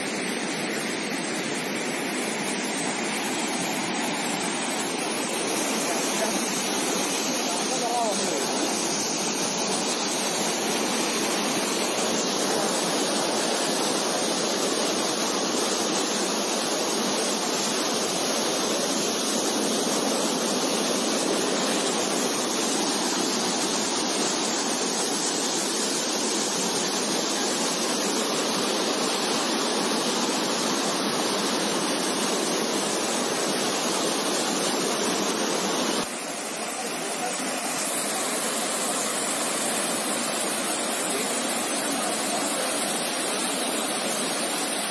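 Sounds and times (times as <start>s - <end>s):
floodwater rushing: 0.0s - 44.9s.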